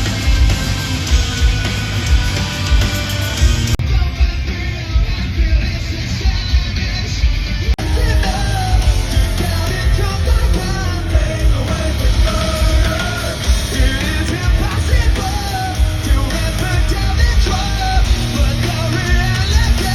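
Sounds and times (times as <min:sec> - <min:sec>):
live rock band playing: 0:00.0 - 0:19.9
vocalist singing and shouting: 0:00.0 - 0:19.9.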